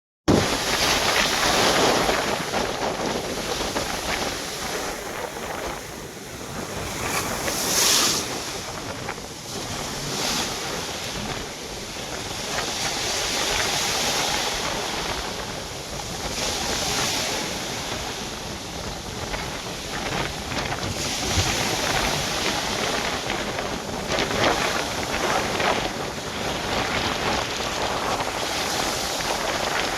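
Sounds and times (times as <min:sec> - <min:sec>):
sea waves washing: 0:00.3 - 0:29.9
wind buffeting microphone: 0:00.3 - 0:29.9.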